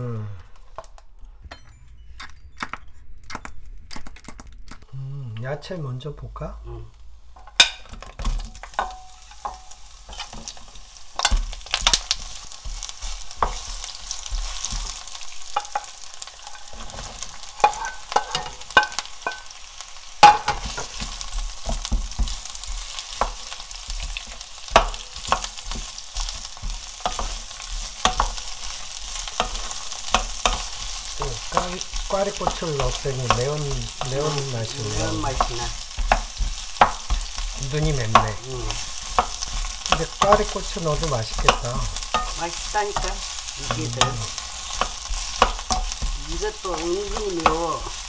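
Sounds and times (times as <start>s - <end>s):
vegetables sizzling in oil: 6.7s - 48.0s.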